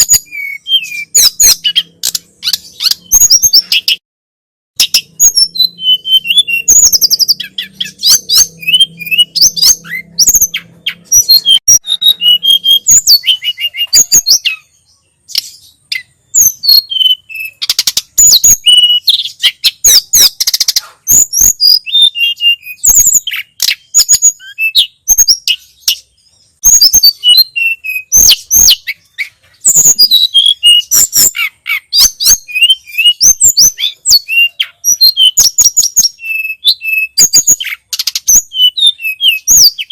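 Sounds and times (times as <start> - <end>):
bird singing chirps and whistles: 0.0 - 4.0, 4.8 - 39.9.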